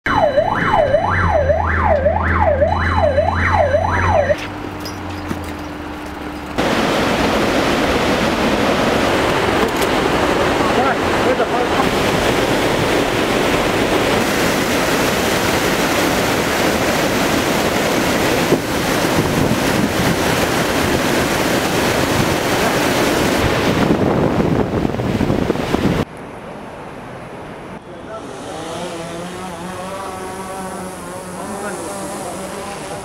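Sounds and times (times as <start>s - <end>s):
river rushing over weir: 5.0s - 33.0s.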